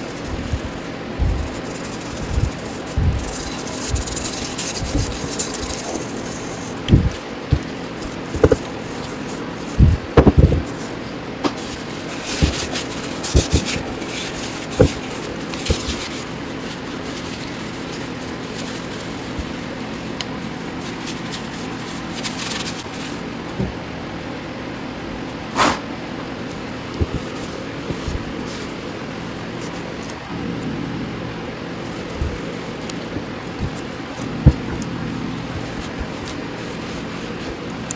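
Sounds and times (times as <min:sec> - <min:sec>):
steady shop hum: 0:00.0 - 0:37.9.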